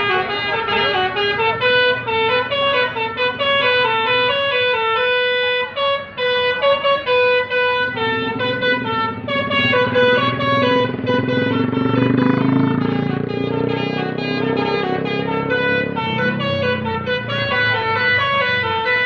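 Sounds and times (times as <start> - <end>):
musical bus horn melody: 0.0 - 19.0.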